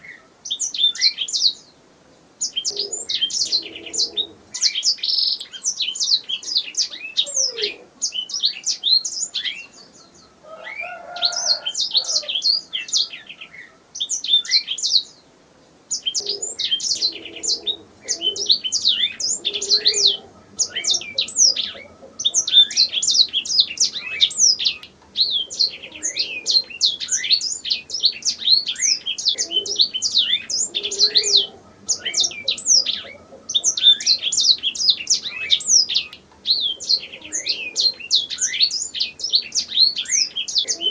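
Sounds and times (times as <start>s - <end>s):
canary singing: 0.0s - 1.7s, 2.4s - 15.2s, 15.9s - 40.9s.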